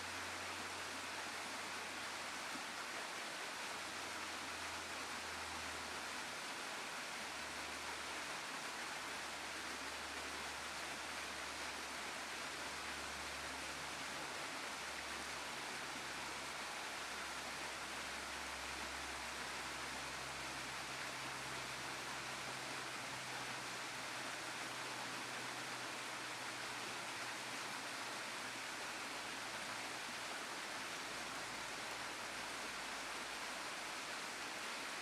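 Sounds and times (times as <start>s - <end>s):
waterfall: 0.0s - 35.0s.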